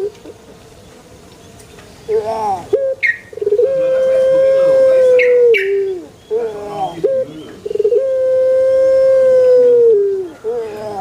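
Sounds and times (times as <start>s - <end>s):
dove cooing: 0.0s - 0.5s, 2.1s - 11.0s.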